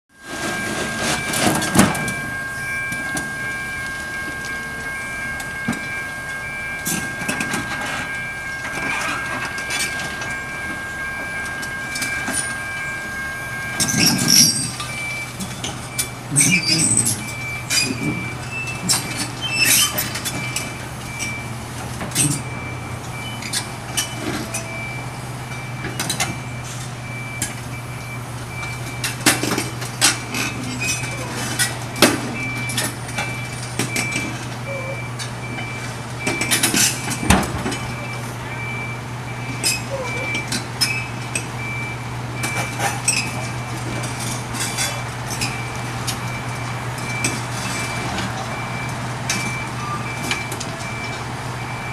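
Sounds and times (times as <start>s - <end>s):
excavator diesel engine running: 0.1s - 51.9s
crossing bell dinging: 0.2s - 21.6s, 22.3s - 28.0s, 28.6s - 51.9s.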